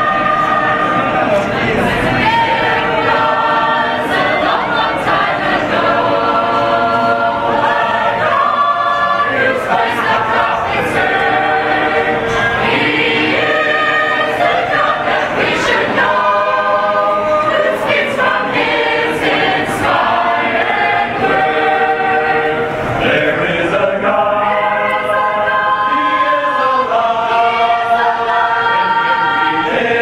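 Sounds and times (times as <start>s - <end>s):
mixed choir singing a cappella: 0.0s - 30.0s.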